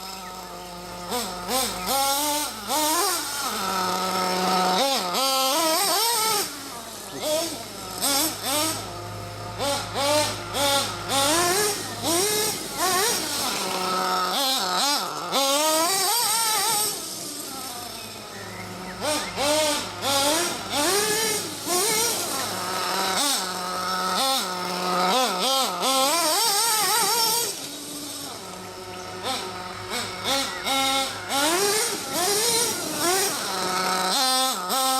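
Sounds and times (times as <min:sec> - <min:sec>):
rc buggy engine revving: 0:00.0 - 0:34.9.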